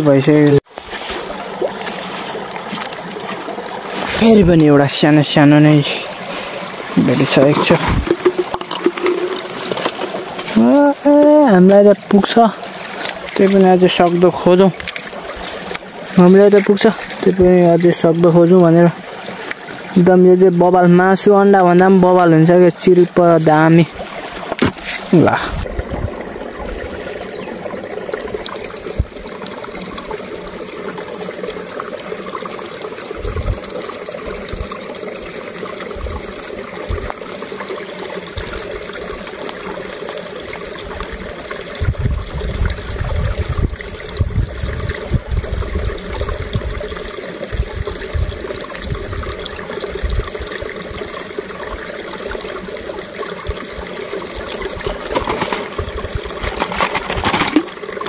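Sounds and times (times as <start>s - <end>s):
stream trickling over pebbles: 0.0s - 58.0s.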